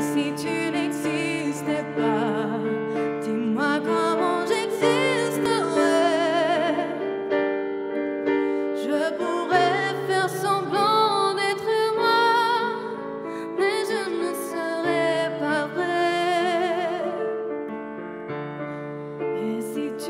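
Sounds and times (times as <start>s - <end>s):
woman singing into a microphone: 0.0s - 7.3s, 8.6s - 17.4s, 19.2s - 20.0s.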